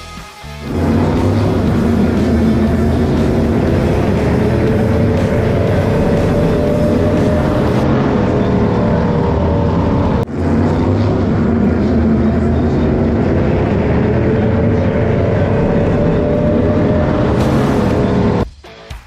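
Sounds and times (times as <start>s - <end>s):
race car engines droning: 0.0s - 18.4s.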